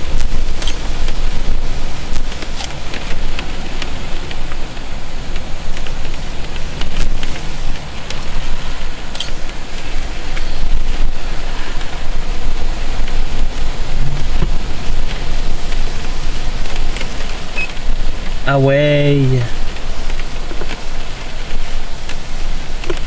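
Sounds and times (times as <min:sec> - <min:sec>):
heavy rain rushing: 0:00.0 - 0:23.0
wind: 0:00.0 - 0:23.0.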